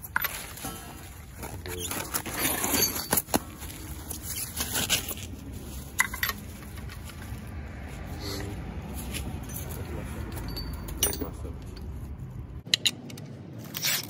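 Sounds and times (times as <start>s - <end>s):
metal tools clinking: 0.0s - 7.3s, 9.1s - 14.0s.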